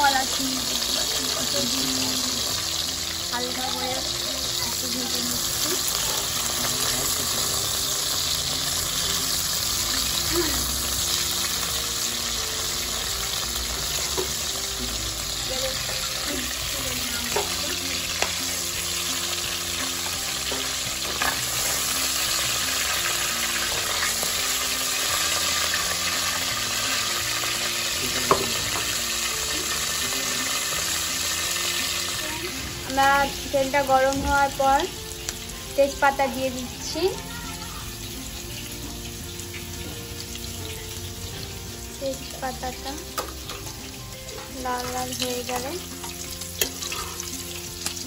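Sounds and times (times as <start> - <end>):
prawns sizzling in hot oil: 0.0 - 48.0.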